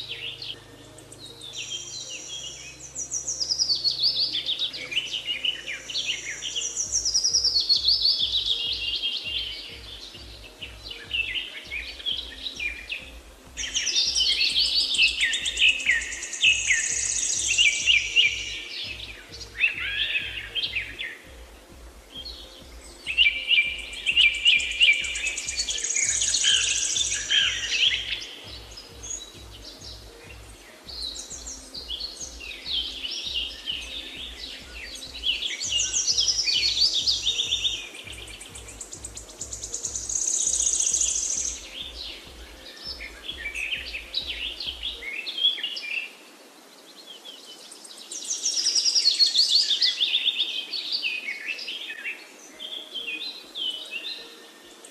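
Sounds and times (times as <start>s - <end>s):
songbirds chirping and singing: 0.0s - 54.9s.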